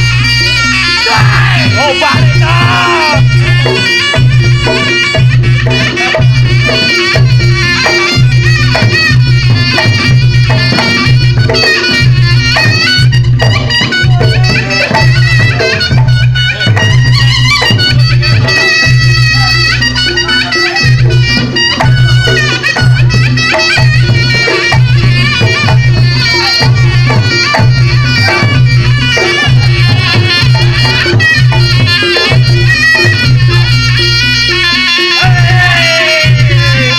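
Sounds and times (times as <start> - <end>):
drums: 0.0 - 36.9
low percussion beats: 0.0 - 36.9
shrill shawm melody: 0.0 - 36.9.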